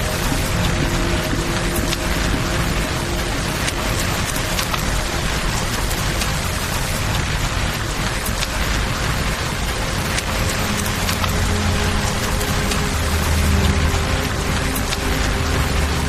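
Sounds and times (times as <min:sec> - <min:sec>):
flowing river rushing: 0:00.0 - 0:16.0
sharp crackles and clicks: 0:00.0 - 0:16.0
steady rain falling: 0:00.0 - 0:16.0.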